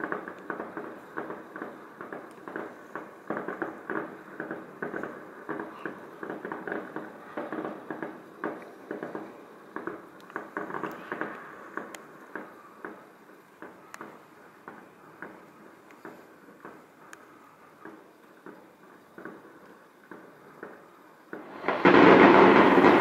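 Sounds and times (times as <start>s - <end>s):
distant fireworks crackling and popping: 0.0s - 23.0s
sharp firework cracks: 0.0s - 23.0s.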